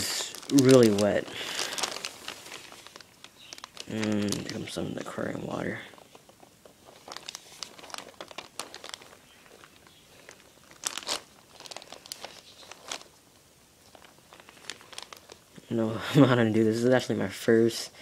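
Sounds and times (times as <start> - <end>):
plastic bag and newspaper crinkling: 0.0 - 17.4.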